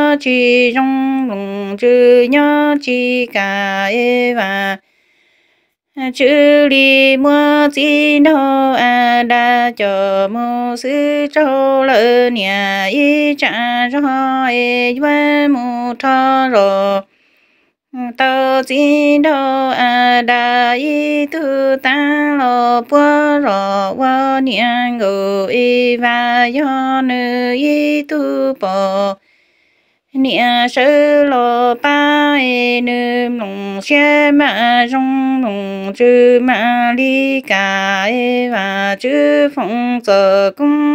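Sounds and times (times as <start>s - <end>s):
woman singing folk song: 0.0s - 5.0s, 6.0s - 40.9s.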